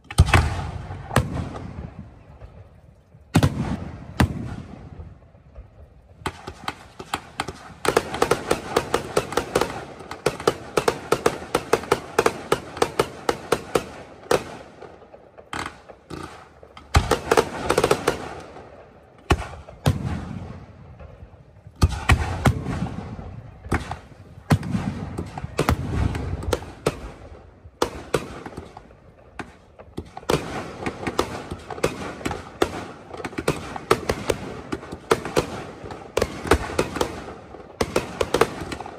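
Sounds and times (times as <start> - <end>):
fireworks booming: 0.0 - 2.6, 3.3 - 38.9
fireworks crackling: 3.3 - 38.9.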